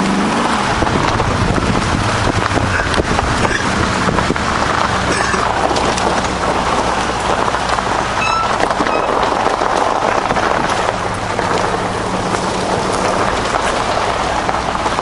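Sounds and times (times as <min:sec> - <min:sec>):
low engine hum: 0:00.0 - 0:15.0
tyre and road noise: 0:00.0 - 0:15.0.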